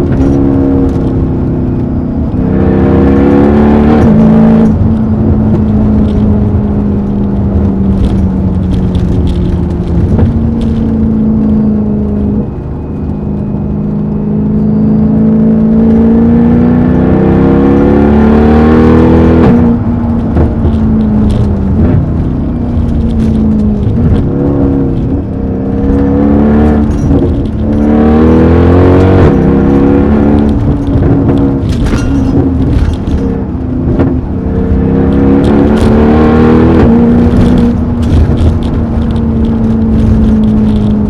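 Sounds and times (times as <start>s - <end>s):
car engine accelerating: 0.0s - 41.0s.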